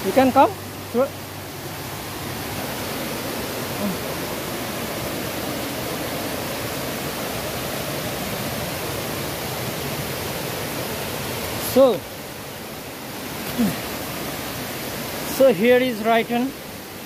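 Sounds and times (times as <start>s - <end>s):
river and waterfall rushing: 0.0s - 17.0s.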